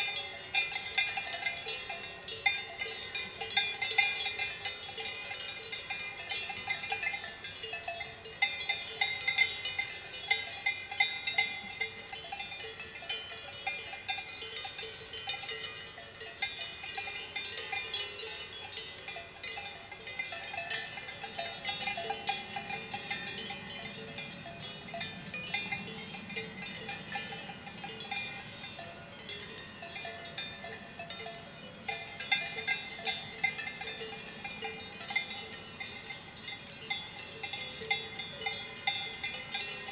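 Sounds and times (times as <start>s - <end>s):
cowbells clanking: 0.0s - 39.9s.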